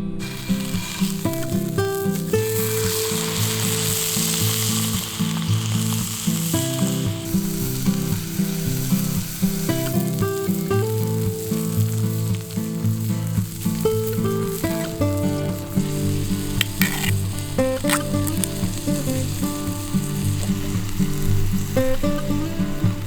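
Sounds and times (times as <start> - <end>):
background music: 0.0 - 23.0
steak sizzling: 0.0 - 23.0.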